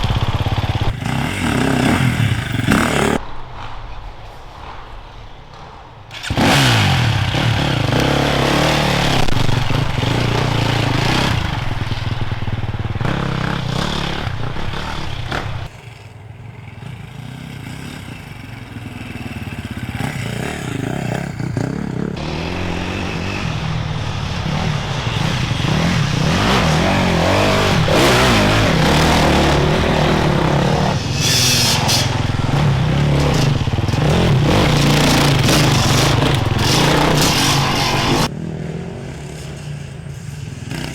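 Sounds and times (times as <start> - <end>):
motorcycle engines revving: 0.0 - 3.6, 5.5 - 40.9.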